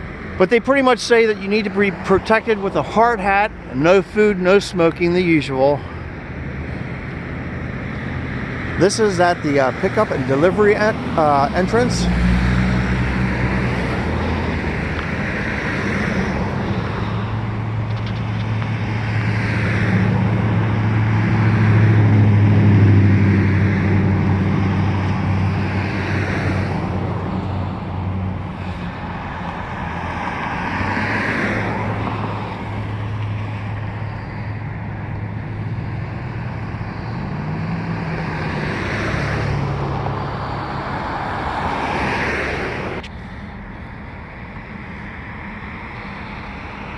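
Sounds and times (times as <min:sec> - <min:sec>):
cars passing: 0:00.0 - 0:46.9.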